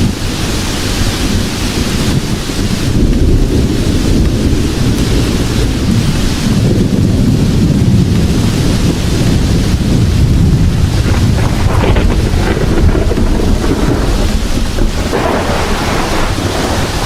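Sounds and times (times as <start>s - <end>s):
heavy rain: 0.0s - 17.0s
low rumble of thunder: 0.0s - 17.0s.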